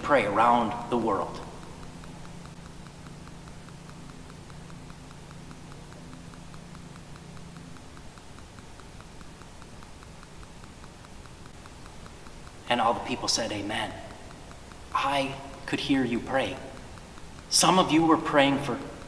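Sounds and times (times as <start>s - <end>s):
fast even ticking: 0.0s - 19.0s
steady low hum: 0.0s - 19.0s.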